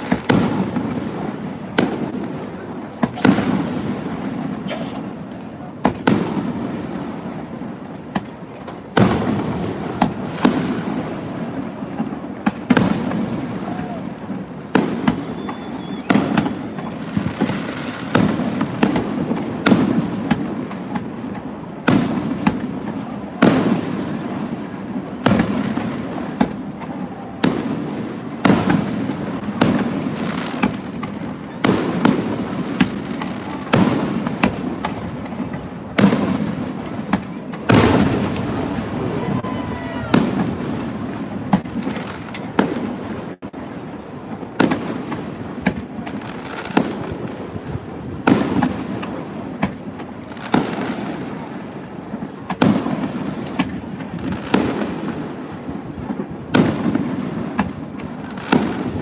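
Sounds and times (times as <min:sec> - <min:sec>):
continuous fireworks rumble: 0:00.0 - 0:59.0
fireworks bangs with echo: 0:00.0 - 0:59.0.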